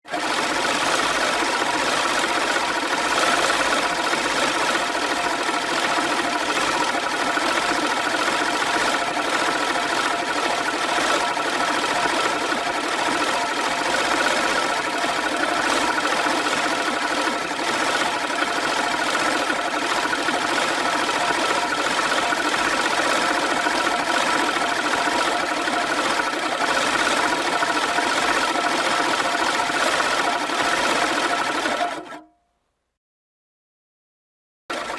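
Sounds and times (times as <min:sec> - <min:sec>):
reel lawn mower whirring: 0:00.0 - 0:32.2.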